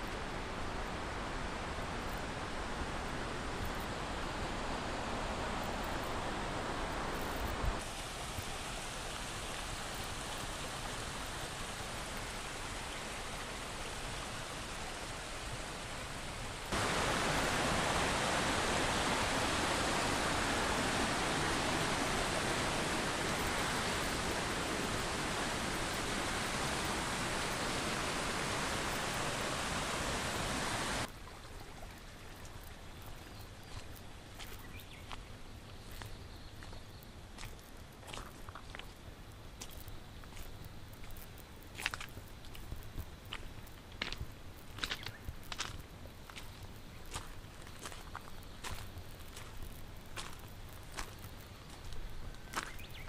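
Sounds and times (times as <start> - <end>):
mountain stream flowing: 0.0 - 53.0.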